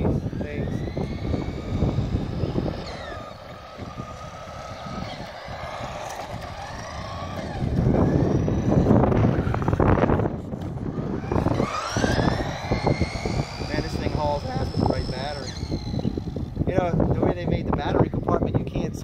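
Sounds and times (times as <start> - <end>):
rough rushing noise: 0.0 - 17.8
electric motor whining: 0.0 - 18.0.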